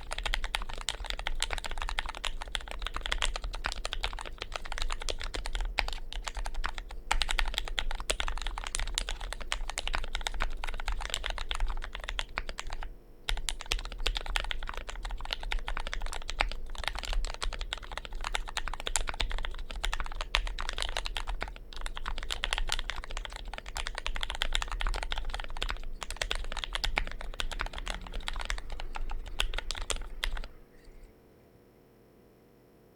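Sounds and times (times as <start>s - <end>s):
fast typing on mechanical keyboard: 0.0s - 30.6s.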